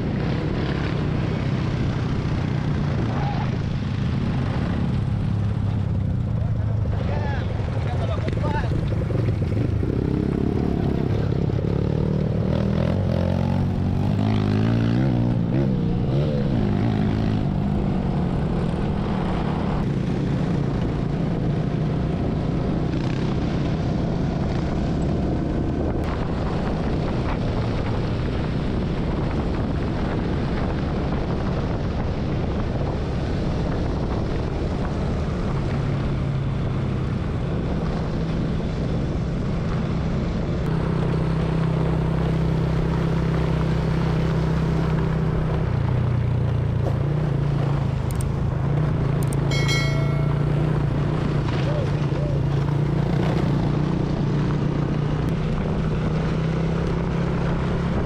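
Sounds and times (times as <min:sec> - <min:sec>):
small motorcycle engines running: 0:00.0 - 0:58.0.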